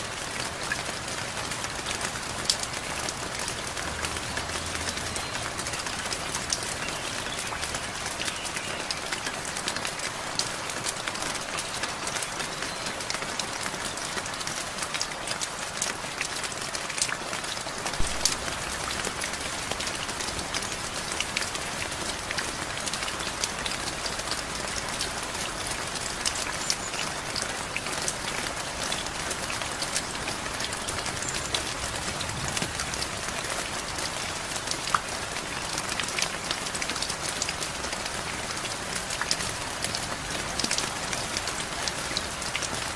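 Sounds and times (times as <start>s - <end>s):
steady rain hiss: 0.0s - 42.9s
raindrops ticking on hard surface: 0.1s - 42.9s.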